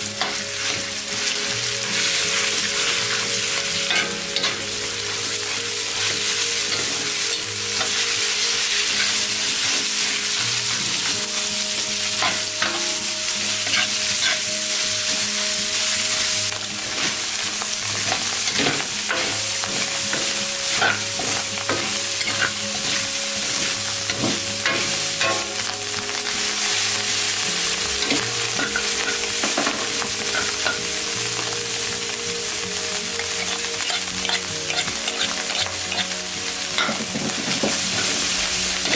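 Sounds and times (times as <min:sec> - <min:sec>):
meat sizzling in oil: 0:00.0 - 0:38.9.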